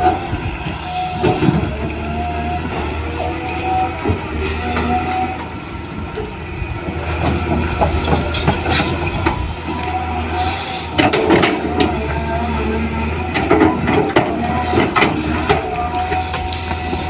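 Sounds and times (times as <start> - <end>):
clicks and scraping: 0.0 - 17.0
small electric motors running: 0.0 - 17.0.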